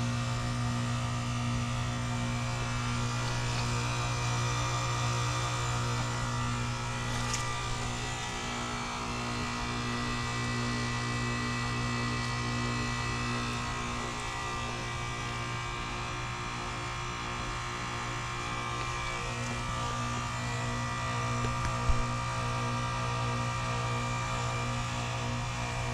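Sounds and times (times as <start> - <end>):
heat pump compressor humming: 0.0 - 25.9.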